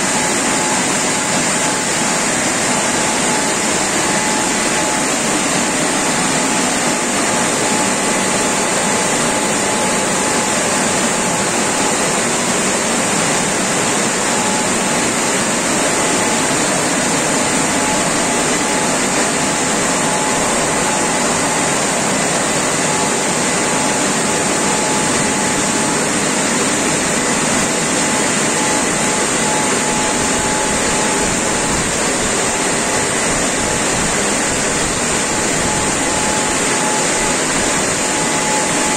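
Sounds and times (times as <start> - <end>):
car wash machine whooshing: 0.0 - 38.9
faint steady whine: 0.0 - 38.9.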